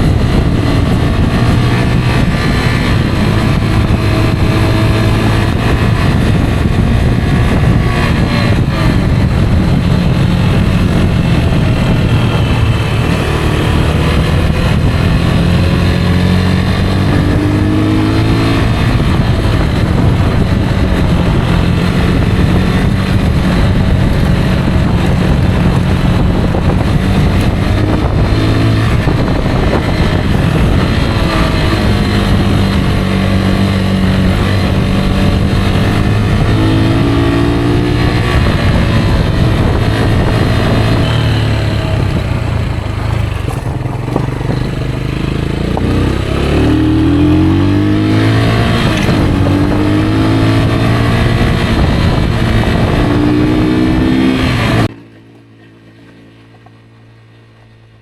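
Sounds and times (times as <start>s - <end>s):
steady rushing noise: 0.0s - 55.0s
motorcycle engine revving: 0.0s - 58.0s.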